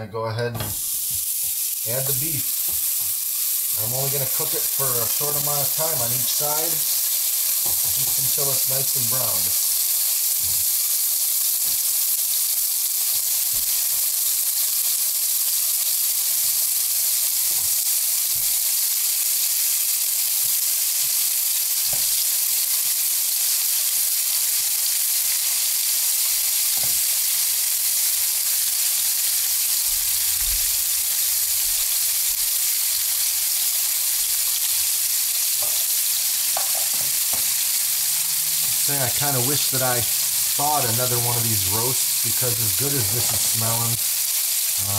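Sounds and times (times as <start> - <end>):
meat sizzling in oil: 0.6 - 44.9.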